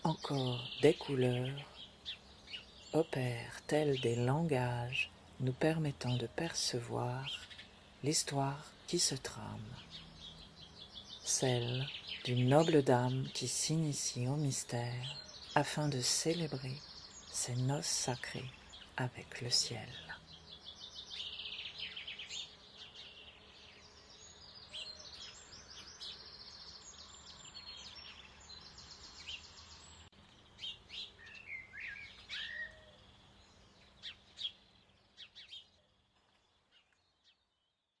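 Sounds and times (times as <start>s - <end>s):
birds singing: 0.0s - 38.0s.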